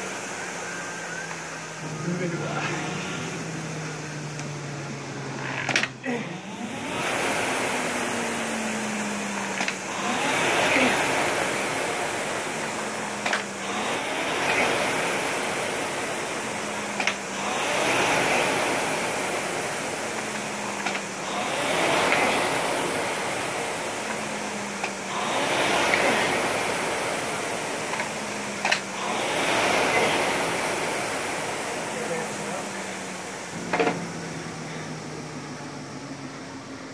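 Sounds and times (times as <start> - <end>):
rowing machine flywheel whooshing: 0.0 - 36.9.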